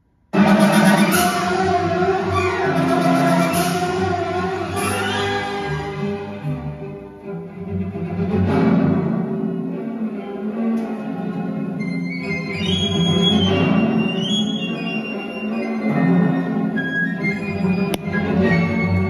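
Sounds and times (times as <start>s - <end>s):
classical string music: 0.3s - 19.0s.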